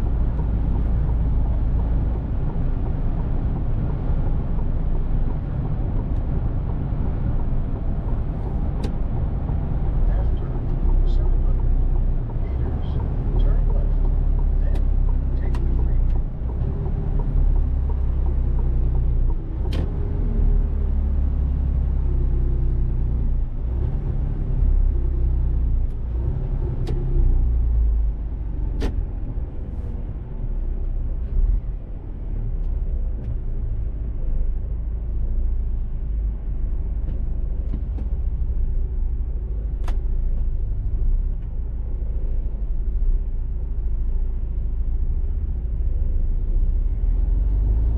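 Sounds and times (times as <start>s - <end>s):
truck diesel engine driving: 0.0s - 47.9s.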